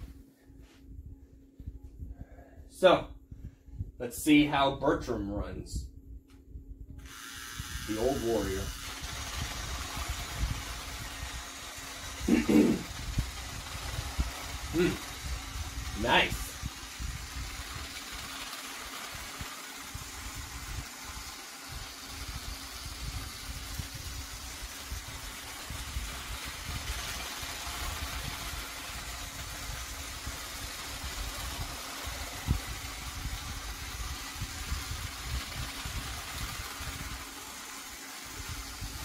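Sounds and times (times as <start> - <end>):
toy train motor hum: 7.0 - 39.0.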